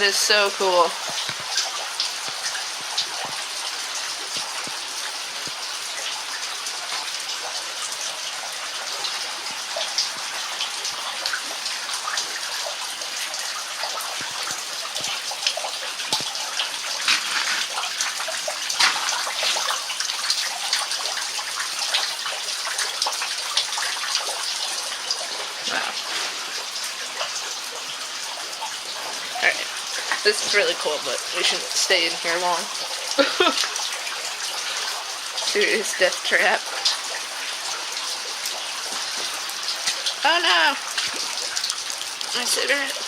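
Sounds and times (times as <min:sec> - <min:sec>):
meltwater dripping: 0:00.0 - 0:43.0
running water hiss: 0:00.0 - 0:43.0.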